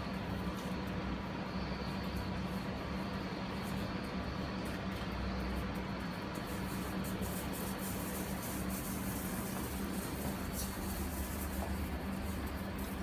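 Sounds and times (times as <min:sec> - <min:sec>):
machine hum: 0:00.0 - 0:13.0
steady hiss: 0:00.0 - 0:13.0.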